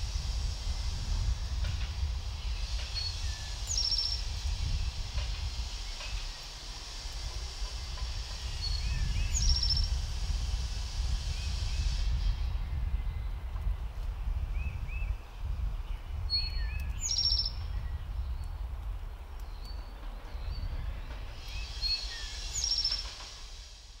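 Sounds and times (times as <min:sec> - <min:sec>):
songbirds chirping: 0:01.4 - 0:10.0, 0:11.2 - 0:23.4.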